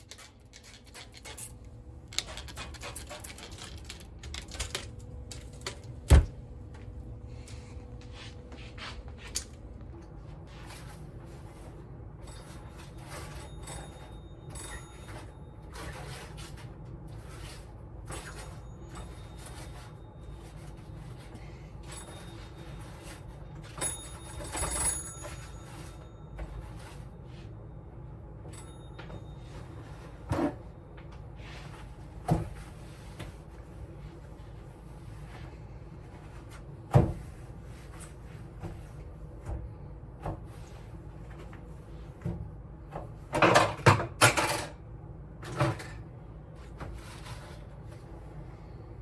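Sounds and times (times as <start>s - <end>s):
steady low hum: 0.0s - 43.4s.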